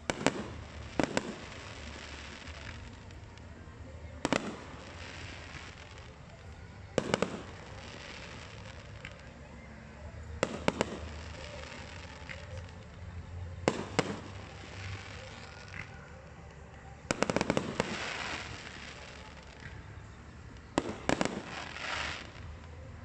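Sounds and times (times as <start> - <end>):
faint firework crackling: 0.0 - 23.0.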